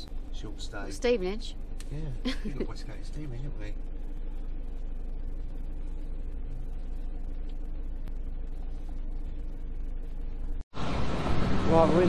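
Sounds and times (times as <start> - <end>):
van engine idling: 0.0 - 10.6.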